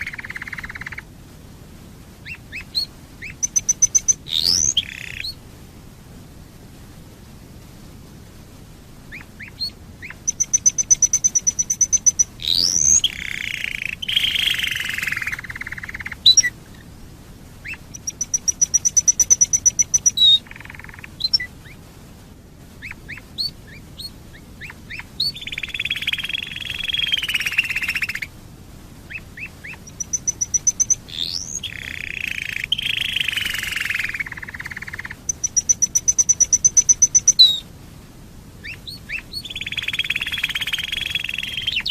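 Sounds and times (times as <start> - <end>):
canary singing: 0.0 - 1.1, 2.2 - 5.4, 9.1 - 16.9, 17.6 - 21.8, 22.8 - 28.4, 29.1 - 37.7, 38.6 - 41.9.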